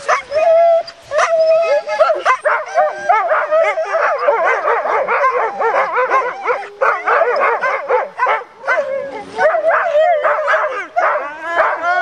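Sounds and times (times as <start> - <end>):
sled dogs barking and yelping: 0.0 - 12.0.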